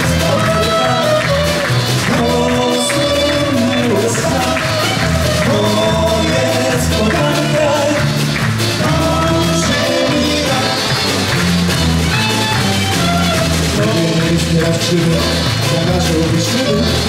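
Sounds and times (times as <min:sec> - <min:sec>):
accordion: 0:00.0 - 0:17.0
drum kit beat: 0:00.0 - 0:17.0
electric guitar: 0:00.0 - 0:17.0
wind instrument melody: 0:00.0 - 0:17.0.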